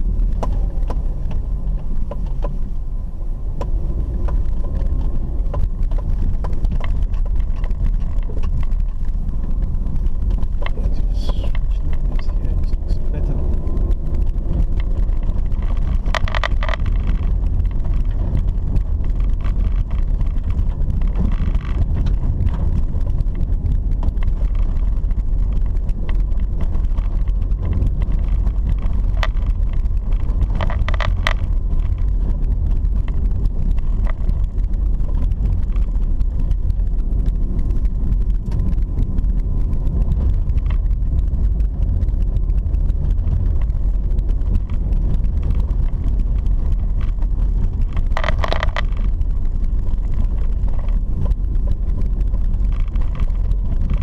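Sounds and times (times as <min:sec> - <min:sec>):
small rattles and knocks: 0:00.0 - 0:02.9, 0:03.5 - 0:54.0
car rumbling on dirt road: 0:00.0 - 0:54.0.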